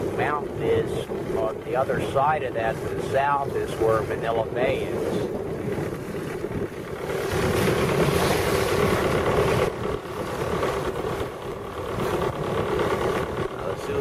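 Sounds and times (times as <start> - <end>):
water rushing along hull: 0.0 - 14.0
wind on microphone: 0.0 - 14.0.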